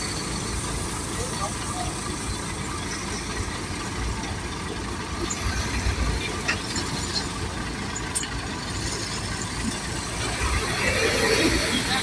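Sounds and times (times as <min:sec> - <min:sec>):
heavy machine engine idling: 0:00.0 - 0:12.0.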